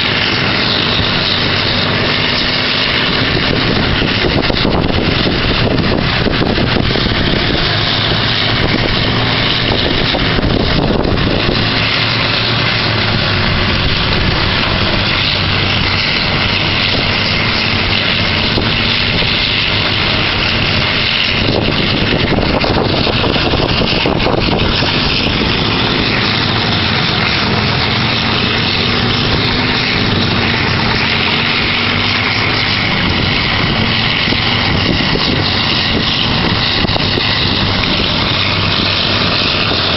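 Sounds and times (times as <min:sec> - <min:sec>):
engine hum: 0:00.0 - 0:39.9
wood grinder and excavator din: 0:00.0 - 0:39.9.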